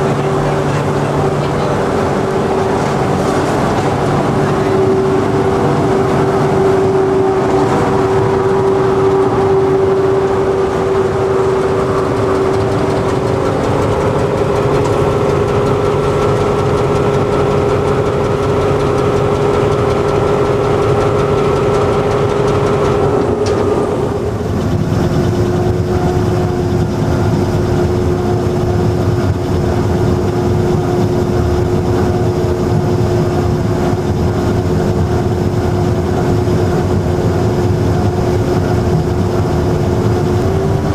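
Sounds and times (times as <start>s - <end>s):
diesel locomotive engine droning: 0.0s - 40.9s
held whine: 0.0s - 40.9s.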